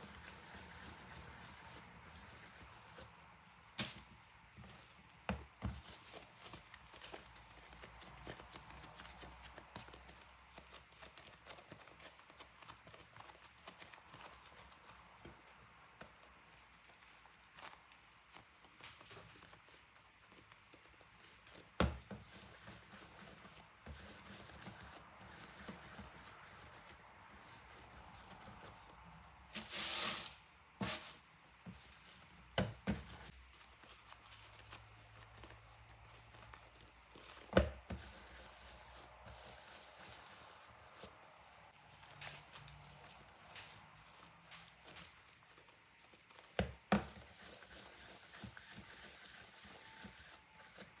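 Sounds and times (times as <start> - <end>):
dough handling sounds: 0.0 - 51.0.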